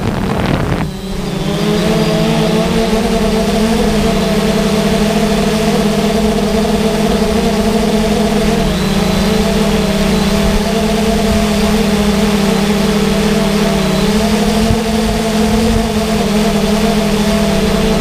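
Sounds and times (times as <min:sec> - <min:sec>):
drone propellers humming: 0:00.0 - 0:18.0.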